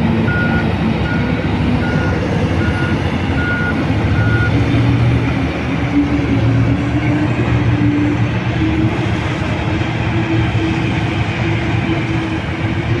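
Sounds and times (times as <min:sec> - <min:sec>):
large diesel engine droning: 0:00.0 - 0:13.0.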